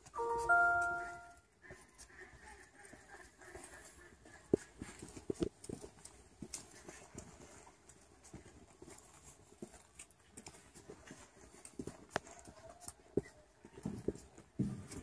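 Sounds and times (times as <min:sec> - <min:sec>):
boot heels clicking on paving: 0:01.7 - 0:15.0.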